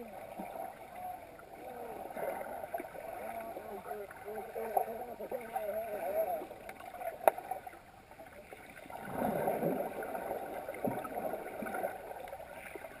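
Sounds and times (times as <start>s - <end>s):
muffled underwater noise: 0.0s - 13.0s.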